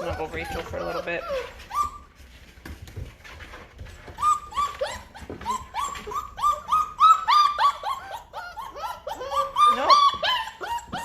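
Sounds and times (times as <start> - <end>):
puppy whining and yelping: 0.0 - 2.6, 3.2 - 11.0.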